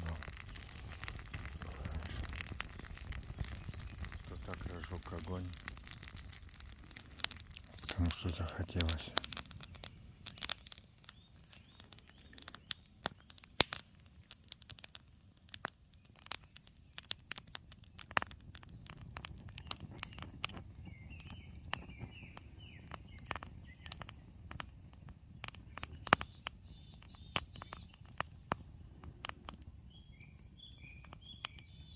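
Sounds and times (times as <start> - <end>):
campfire crackling and popping: 0.0 - 31.9
small birds chirping: 0.0 - 31.9.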